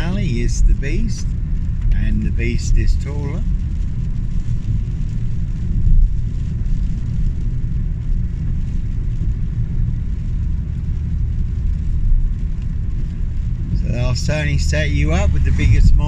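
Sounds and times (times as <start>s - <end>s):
car in motion rumble: 0.0s - 16.0s.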